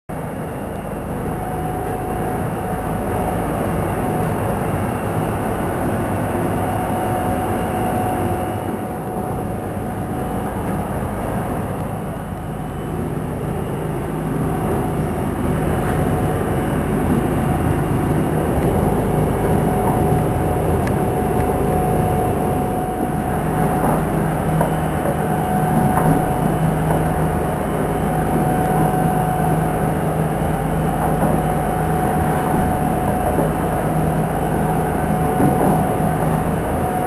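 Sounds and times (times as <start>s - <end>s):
motorboat engine humming: 0.1s - 37.0s
wind noise: 0.4s - 37.0s.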